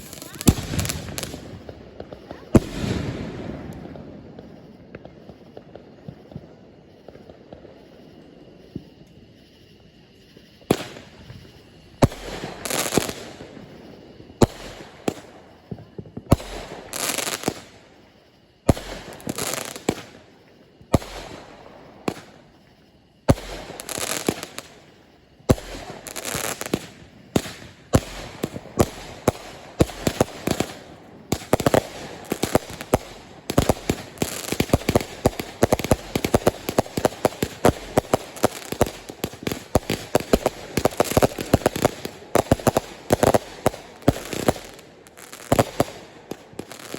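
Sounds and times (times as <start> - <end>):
crackling hissing firework trails: 0.0 - 46.9
firework bangs: 0.0 - 46.9.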